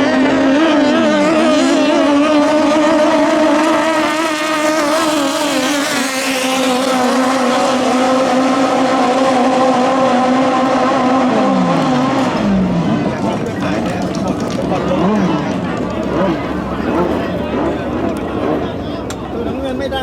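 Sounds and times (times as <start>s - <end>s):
racing boat engine at high revs: 0.0s - 20.0s.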